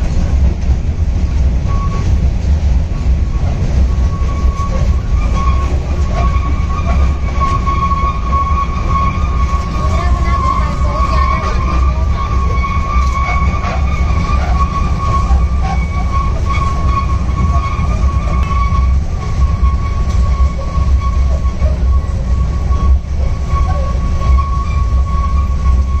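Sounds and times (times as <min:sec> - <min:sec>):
ride train rumbling: 0:00.0 - 0:26.0.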